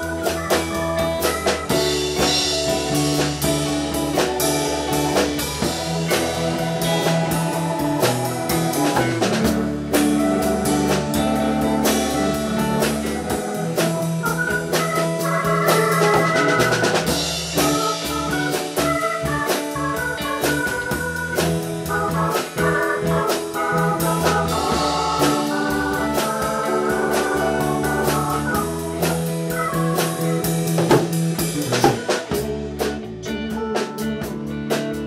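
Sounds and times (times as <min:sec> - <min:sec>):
drum kit beat: 0:00.0 - 0:35.0
organ chords: 0:00.0 - 0:35.0.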